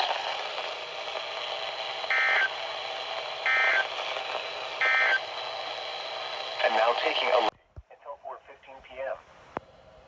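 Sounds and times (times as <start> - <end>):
steady radio hiss: 0.0 - 9.7.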